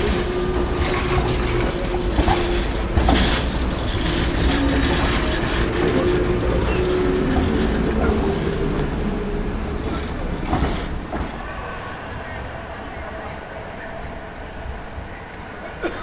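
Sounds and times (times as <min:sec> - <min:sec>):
tram passing with rumble: 0:00.0 - 0:16.0.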